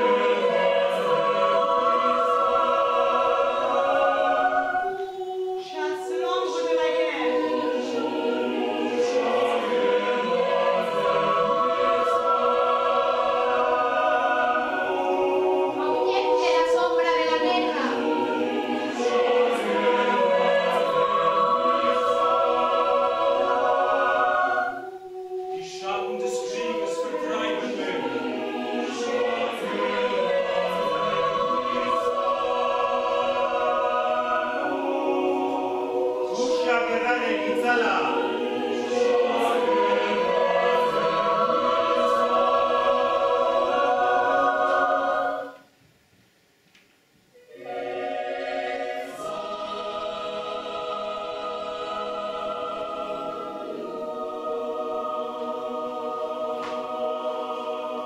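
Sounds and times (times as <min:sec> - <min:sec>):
choir singing sustained chords: 0:00.0 - 0:45.8, 0:47.2 - 0:58.0.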